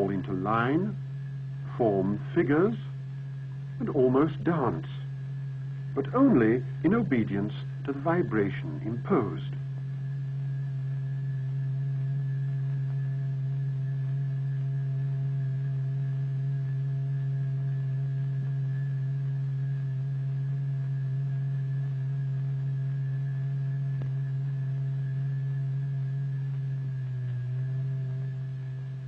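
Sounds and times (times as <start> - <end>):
steady low sine tone: 0.0 - 29.0.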